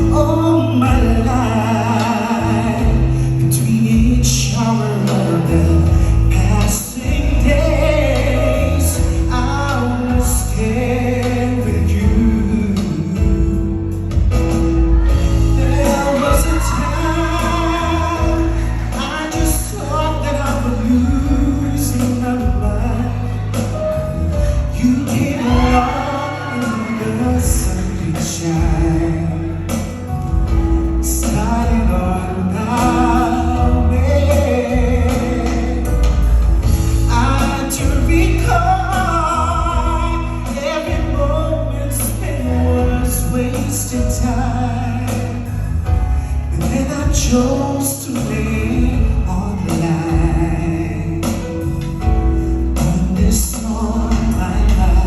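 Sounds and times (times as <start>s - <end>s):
bass line: 0.0s - 55.0s
drums: 0.0s - 55.0s
person singing love song: 0.0s - 55.0s.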